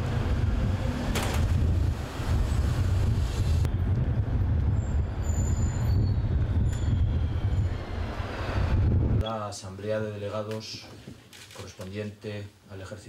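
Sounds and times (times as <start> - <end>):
steady low street rumble: 0.0 - 10.9.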